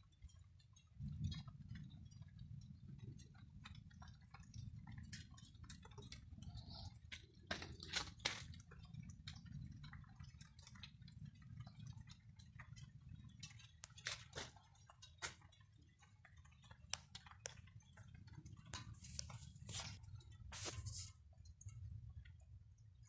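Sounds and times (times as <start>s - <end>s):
rain dripping and pattering: 0.0s - 23.0s.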